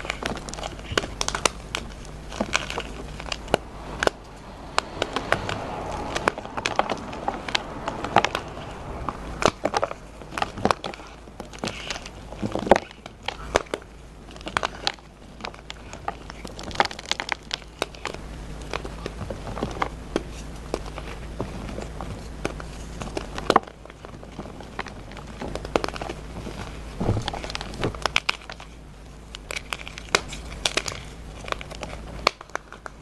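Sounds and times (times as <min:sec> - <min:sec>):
chalk crunching and crackling: 0:00.0 - 0:33.0.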